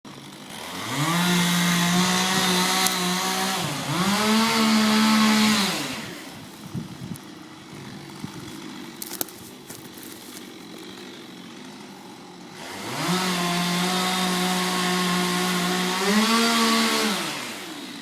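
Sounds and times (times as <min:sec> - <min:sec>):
chainsaw revving: 0:00.1 - 0:18.0.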